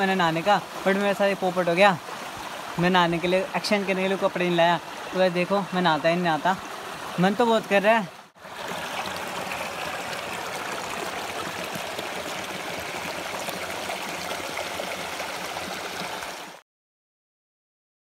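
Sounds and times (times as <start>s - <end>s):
stream running over rocks: 0.0s - 16.6s.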